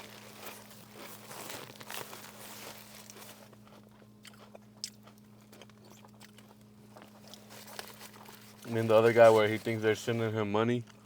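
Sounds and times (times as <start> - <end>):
person chewing crunchy food: 0.0 - 9.8
low steady hum: 0.0 - 11.0.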